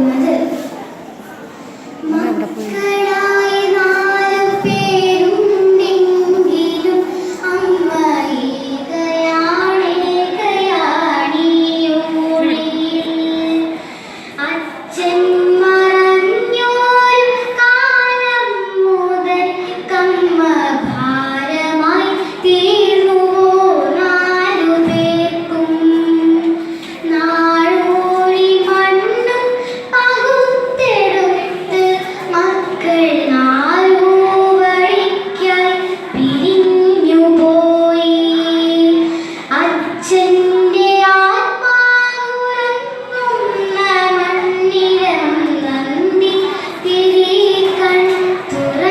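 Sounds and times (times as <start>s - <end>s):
girl chanting a poem melodically: 0.0s - 0.9s, 2.0s - 48.9s.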